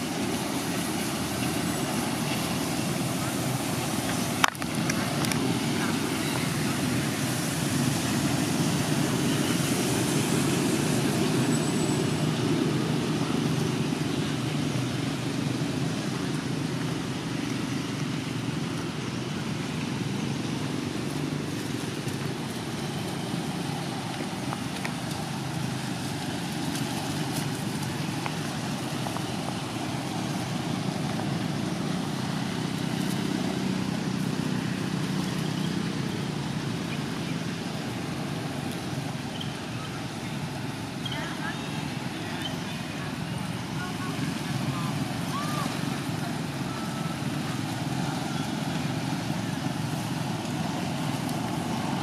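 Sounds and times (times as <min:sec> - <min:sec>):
road traffic rumble: 0:00.0 - 0:52.0
truck passing: 0:00.0 - 0:52.0.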